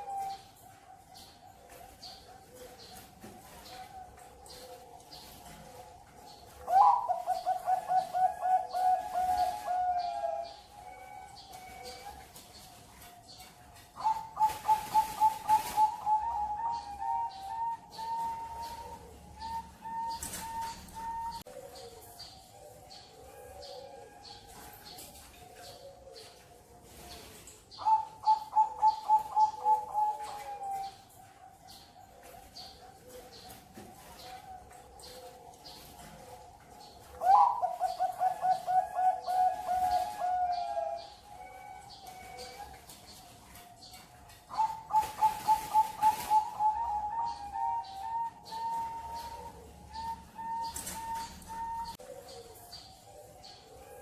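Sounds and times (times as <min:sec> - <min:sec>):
dove cooing: 0:00.0 - 0:54.0
faint birds chirping: 0:00.0 - 0:54.0
faint doves cooing: 0:00.0 - 0:54.0.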